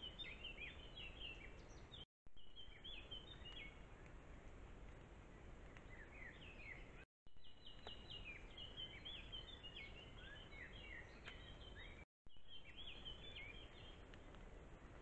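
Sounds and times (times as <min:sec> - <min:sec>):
songbird singing: 0:00.0 - 0:04.1, 0:05.6 - 0:14.4.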